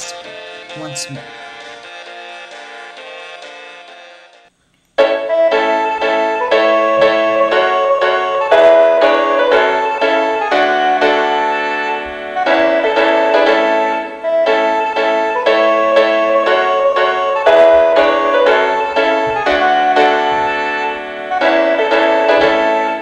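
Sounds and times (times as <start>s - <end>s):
piano background music: 0.0s - 23.0s.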